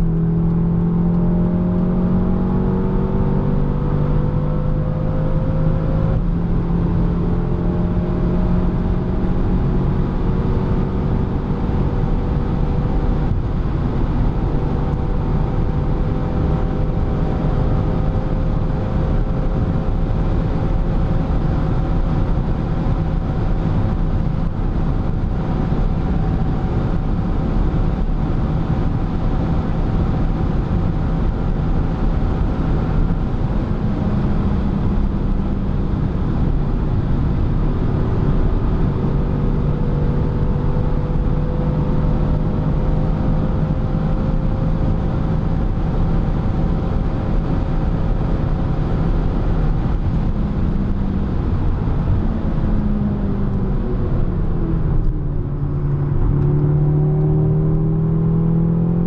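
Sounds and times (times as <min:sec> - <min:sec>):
car engine droning: 0:00.0 - 0:59.0
road and wind noise: 0:00.0 - 0:59.0.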